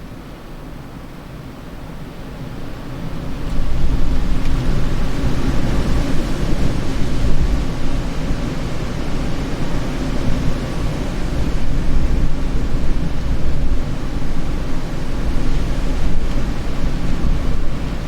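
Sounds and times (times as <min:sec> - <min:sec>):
wind blowing: 0:03.0 - 0:18.0.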